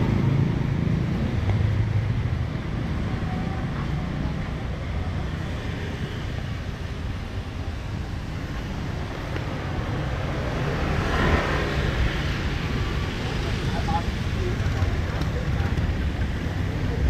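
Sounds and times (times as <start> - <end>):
traffic low rumble: 0.0 - 17.0.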